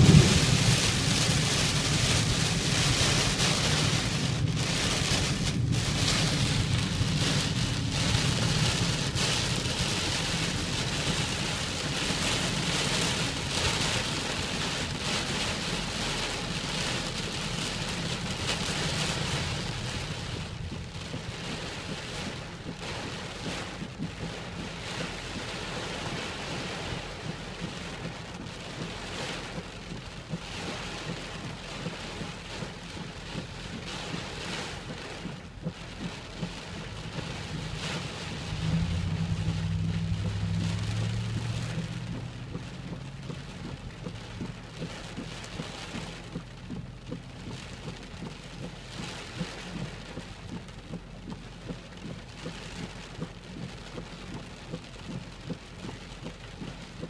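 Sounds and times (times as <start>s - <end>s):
low rumble: 0.0s - 57.0s
rain drumming on car roof: 0.0s - 57.0s.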